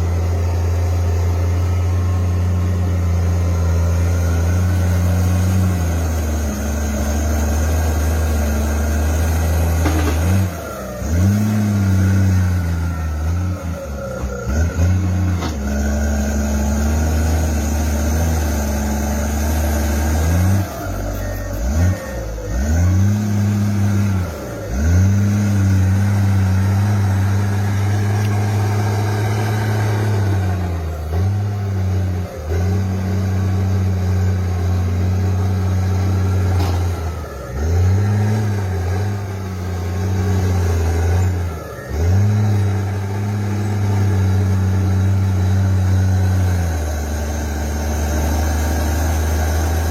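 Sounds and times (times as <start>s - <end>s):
bulldozer diesel engine under load: 0.0s - 49.9s.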